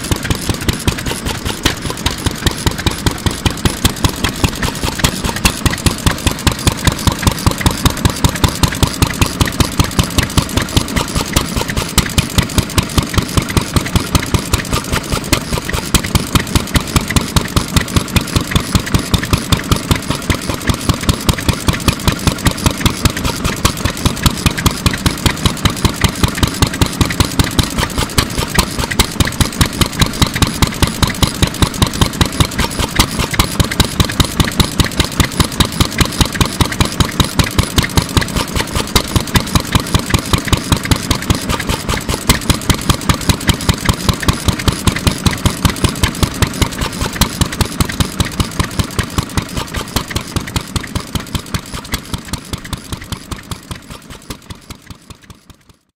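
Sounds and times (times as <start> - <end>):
stationary oil engine running: 0.0 - 55.9.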